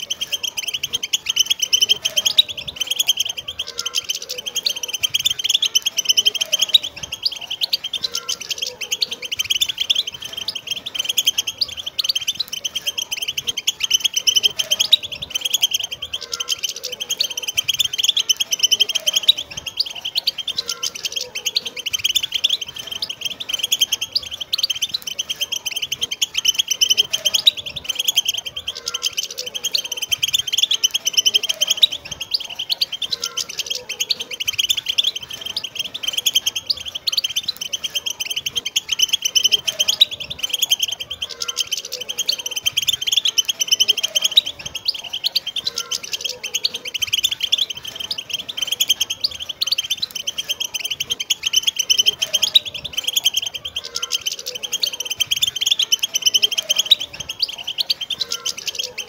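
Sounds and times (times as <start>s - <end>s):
goldfinches chattering and twittering: 0.0s - 59.0s.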